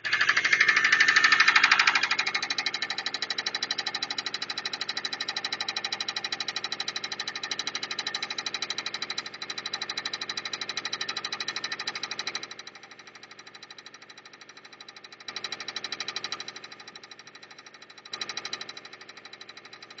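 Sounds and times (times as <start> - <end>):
engine running with rapid knock: 0.0 - 20.0.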